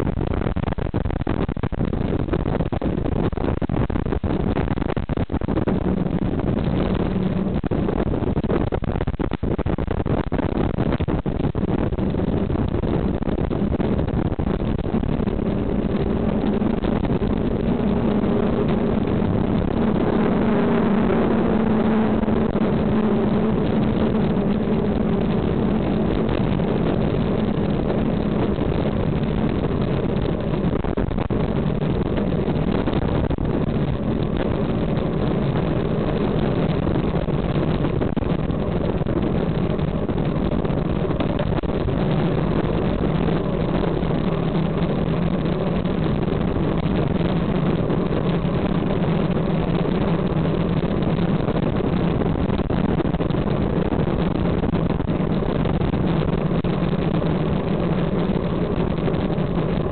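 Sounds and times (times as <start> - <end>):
road rumble: 0.0 - 59.9
wind rush: 0.0 - 59.9.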